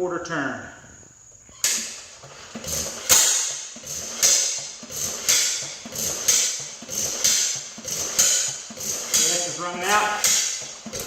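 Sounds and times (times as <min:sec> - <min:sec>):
engine turning over with puffs: 0:01.0 - 0:11.0.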